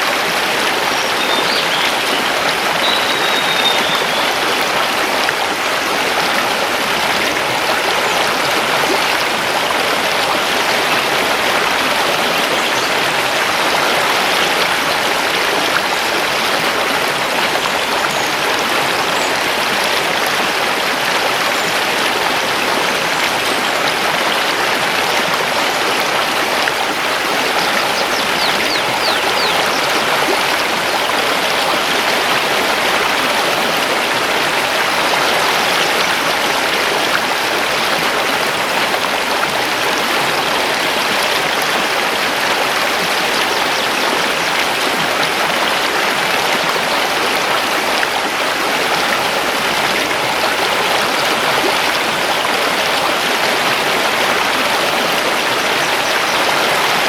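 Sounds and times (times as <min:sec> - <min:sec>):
river rushing over stones: 0:00.0 - 0:57.0.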